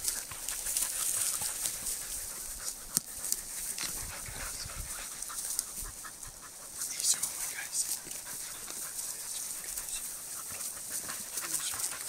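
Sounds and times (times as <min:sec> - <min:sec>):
dogs panting: 0:00.0 - 0:12.0
rustling in grass: 0:00.0 - 0:12.0.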